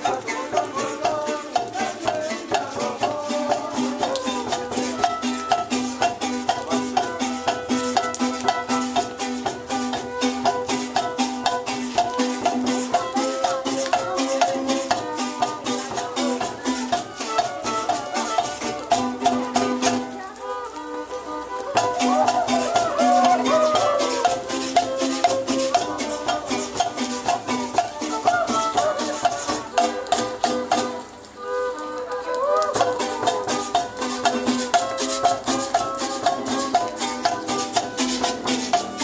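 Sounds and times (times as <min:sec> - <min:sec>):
rattle-like percussion: 0:00.0 - 0:20.2, 0:21.6 - 0:31.3, 0:32.7 - 0:39.0
folk melody over drone: 0:00.0 - 0:39.0.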